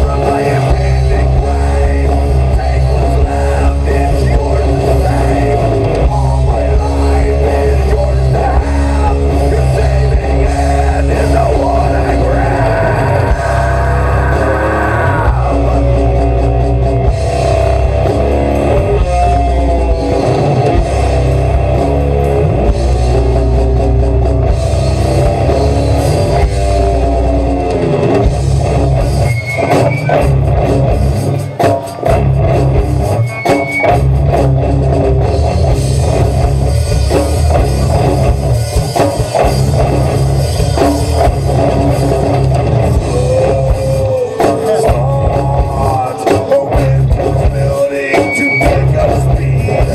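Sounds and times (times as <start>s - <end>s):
heavy rock band playing: 0.0s - 49.9s.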